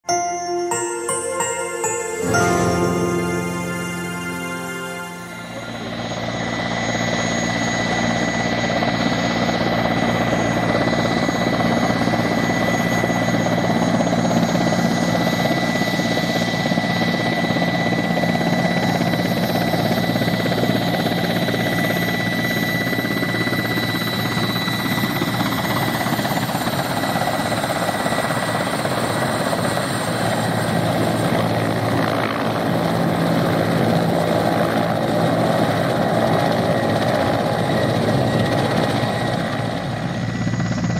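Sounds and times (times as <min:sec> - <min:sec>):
helicopter rotor and engine roar: 0:05.8 - 0:40.9.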